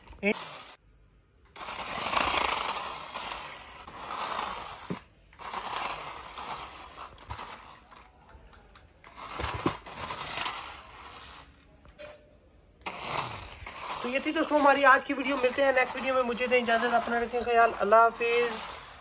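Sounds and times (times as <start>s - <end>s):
plastic wheels rolling on stone: 0.0s - 0.8s, 1.4s - 11.9s, 12.8s - 19.0s
toy car motor whirring: 0.0s - 0.8s, 1.5s - 8.2s, 8.8s - 11.6s, 12.8s - 19.0s.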